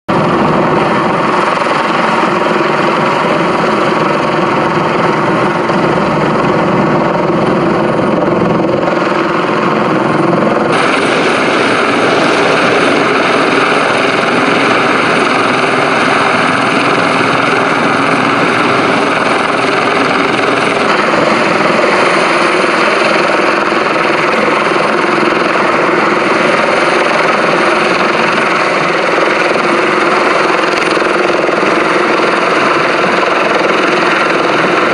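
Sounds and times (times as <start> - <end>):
helicopter hovering overhead: 0.1 - 34.9.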